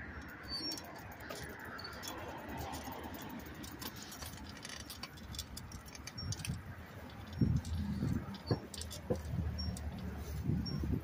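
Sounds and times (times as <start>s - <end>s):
metallic jingling and rattling: 0.1s - 11.0s
bicycle rolling over bricks: 0.4s - 11.0s.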